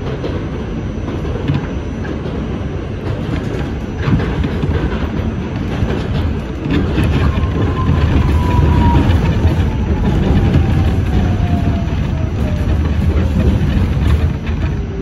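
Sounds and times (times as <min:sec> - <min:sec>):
clicks over rail joints: 0:00.0 - 0:15.0
subway train wheels rumbling: 0:00.0 - 0:15.0.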